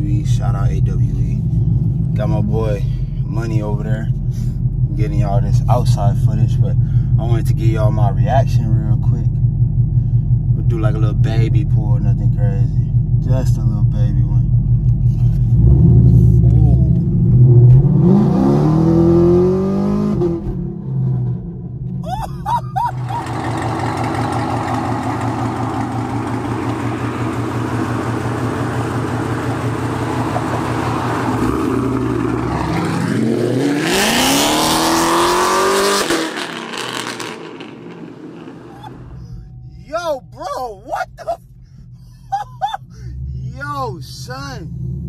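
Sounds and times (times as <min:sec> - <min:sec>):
car engine running steadily: 0:00.0 - 0:45.0
car exhaust accelerating: 0:00.0 - 0:45.0.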